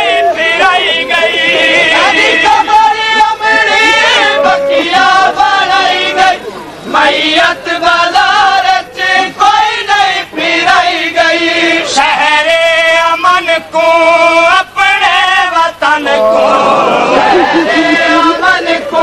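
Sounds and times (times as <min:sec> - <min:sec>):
voices chanting a lament: 0:00.0 - 0:19.0.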